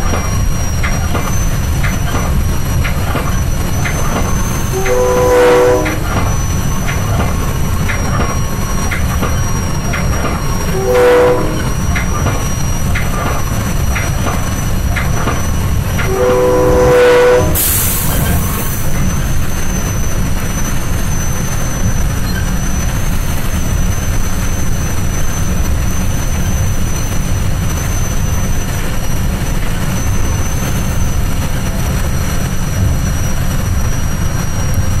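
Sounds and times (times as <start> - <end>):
train rumbling along track: 0.0 - 35.0.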